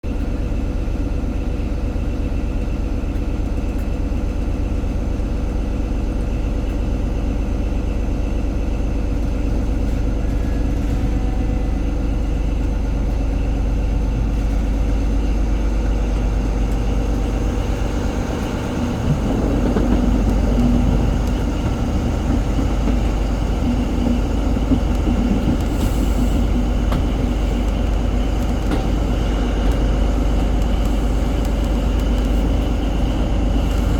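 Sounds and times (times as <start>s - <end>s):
diesel train engine running: 0.1s - 33.9s.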